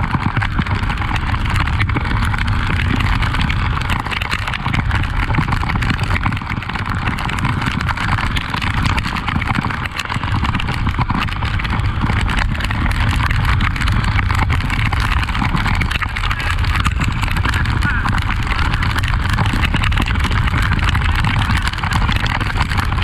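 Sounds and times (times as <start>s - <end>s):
motorcycle engine running: 0.0s - 23.0s
rain: 0.0s - 23.0s
wind noise on microphone: 0.0s - 23.0s.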